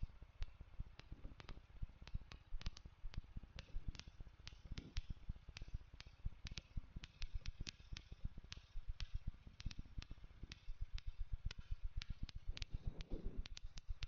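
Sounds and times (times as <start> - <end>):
sharp clicks: 0.4 - 14.0.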